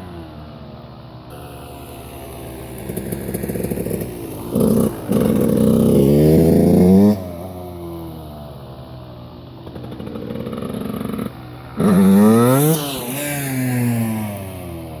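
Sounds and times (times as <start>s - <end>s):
dirt bike engine revving: 1.3s - 8.1s, 9.6s - 15.0s.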